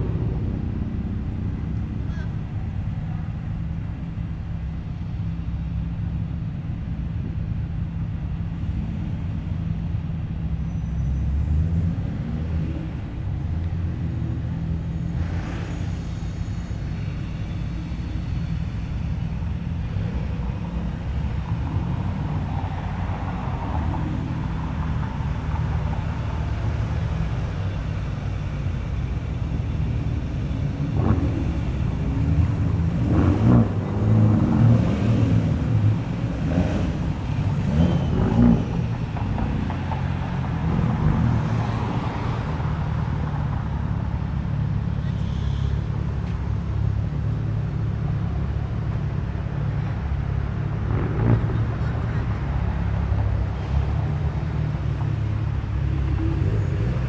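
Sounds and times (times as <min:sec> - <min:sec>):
car engines running: 0:00.0 - 0:57.0.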